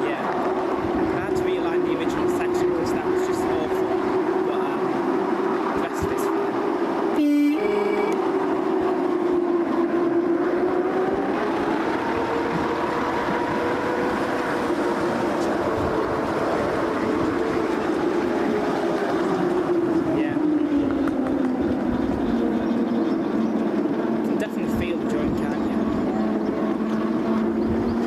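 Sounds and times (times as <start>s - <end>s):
train coach rumbling on track: 0.0s - 28.0s.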